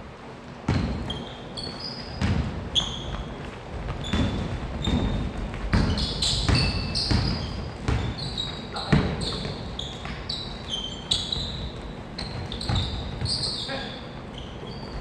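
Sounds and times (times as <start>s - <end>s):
sneakers squeaking: 0.2s - 15.0s
basketball bouncing on gym floor: 0.5s - 15.0s.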